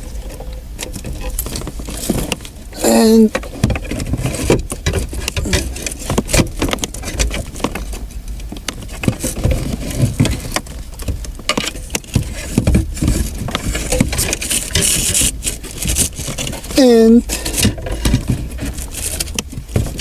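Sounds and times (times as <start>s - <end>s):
wires rustling: 0.0s - 20.0s.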